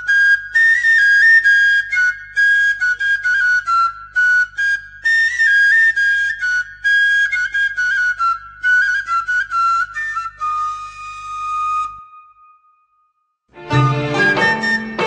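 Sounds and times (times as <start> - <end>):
flute-like melody: 0.0 - 13.0, 13.6 - 15.0.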